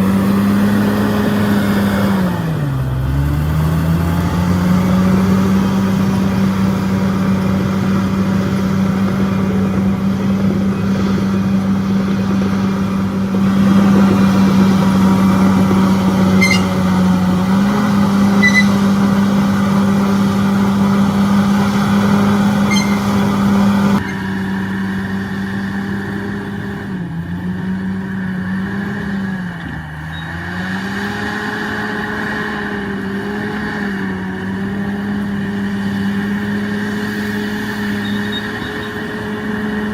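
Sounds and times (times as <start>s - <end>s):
diesel engine at high revs: 0.0s - 39.9s.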